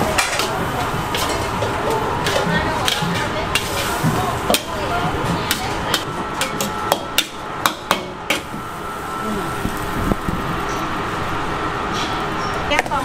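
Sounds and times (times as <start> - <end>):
frying hiss: 0.0 - 13.0.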